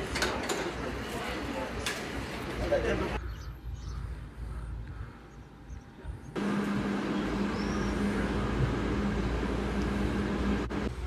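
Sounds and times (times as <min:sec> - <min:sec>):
tram mechanical hum: 0:00.0 - 0:11.0.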